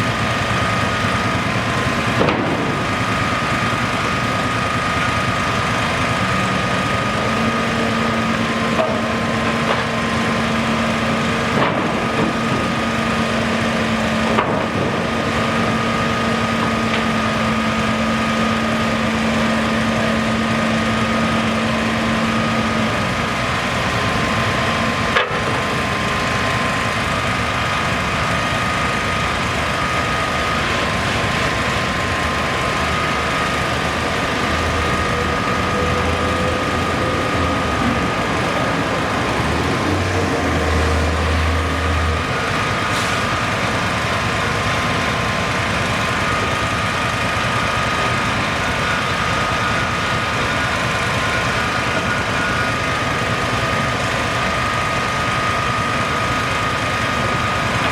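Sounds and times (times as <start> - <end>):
machinery humming: 0.0 - 57.9.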